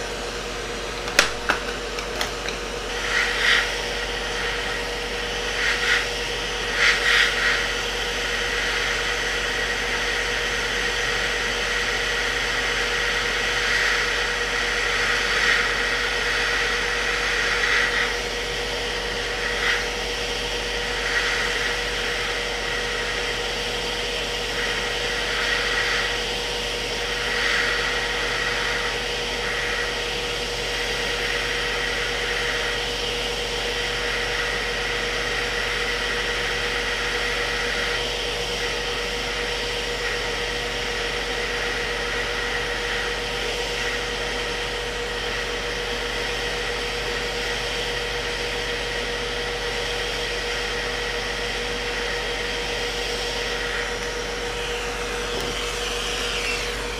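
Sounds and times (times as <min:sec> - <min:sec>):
constant whine: 0:00.0 - 0:56.9
hot air hissing from rework station: 0:00.0 - 0:56.9.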